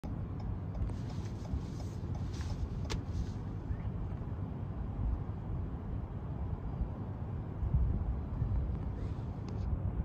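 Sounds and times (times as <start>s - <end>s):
wind buffeting microphone: 0.8s - 10.0s.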